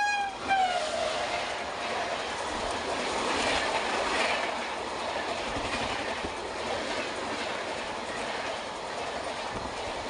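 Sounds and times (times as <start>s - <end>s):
train rushing past: 0.0s - 10.0s.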